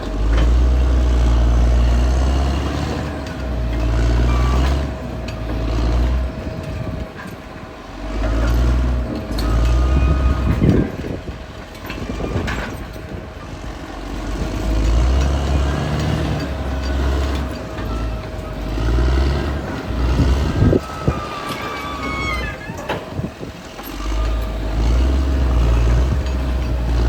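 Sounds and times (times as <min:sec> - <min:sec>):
bulldozer diesel engine: 0:00.0 - 0:27.0.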